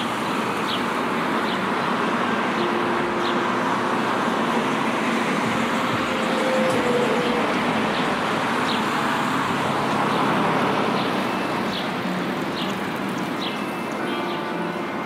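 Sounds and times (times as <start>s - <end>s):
vehicle tyre and engine noise: 0.0s - 15.0s.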